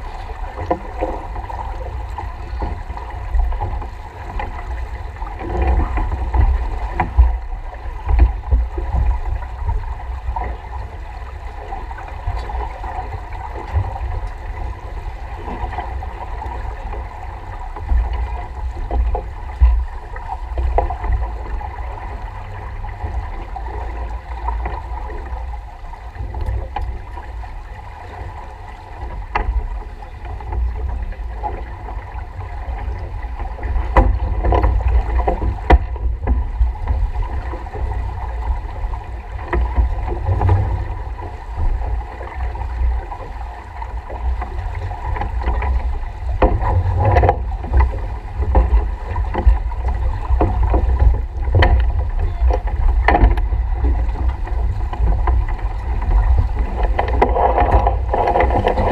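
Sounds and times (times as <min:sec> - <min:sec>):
water rushing along hull: 0:00.0 - 0:58.9
wind buffeting microphone: 0:00.0 - 0:58.9.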